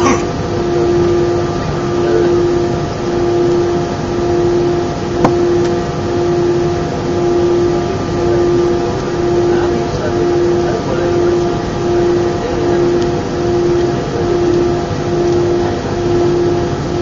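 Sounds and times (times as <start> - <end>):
jet engine drone: 0.0 - 17.0.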